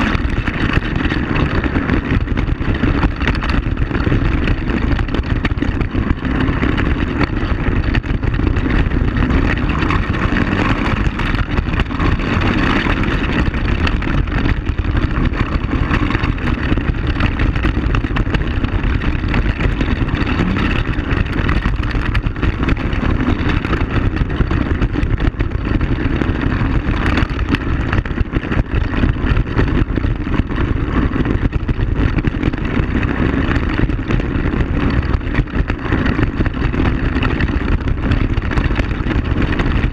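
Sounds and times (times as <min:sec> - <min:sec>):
knocks from rough ground: 0:00.0 - 0:39.9
quad bike engine running: 0:00.0 - 0:39.9.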